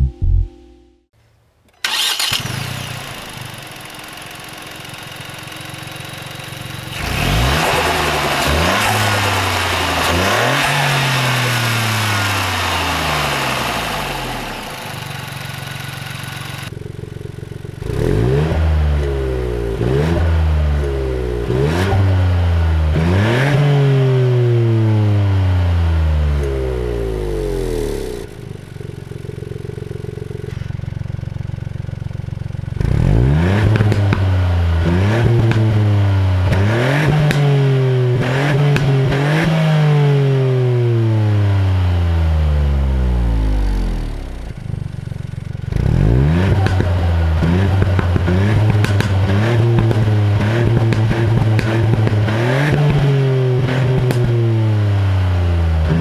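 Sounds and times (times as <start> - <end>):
car engine starting and revving: 1.8 - 56.0.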